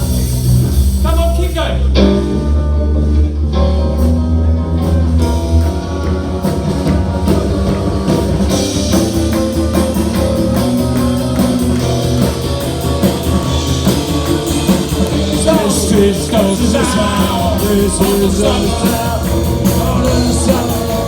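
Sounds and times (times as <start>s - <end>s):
drums steady beat: 0.0s - 2.6s, 4.0s - 21.0s
bass notes: 0.0s - 21.0s
electric guitar: 1.7s - 21.0s.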